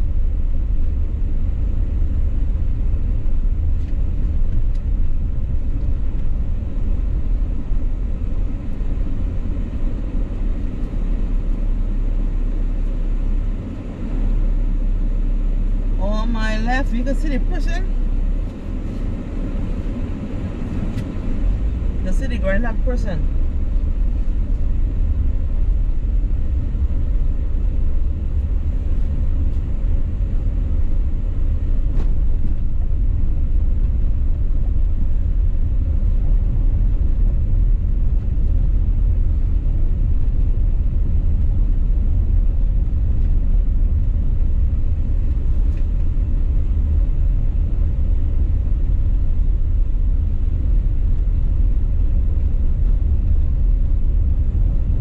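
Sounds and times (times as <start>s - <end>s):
car driving on unpaved road: 0.0s - 55.0s.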